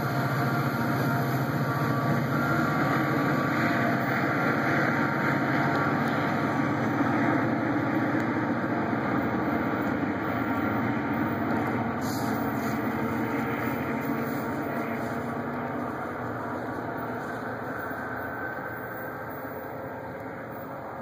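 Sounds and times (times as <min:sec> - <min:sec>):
diesel locomotive engine drone: 0:00.0 - 0:21.0
train rumble: 0:00.0 - 0:21.0.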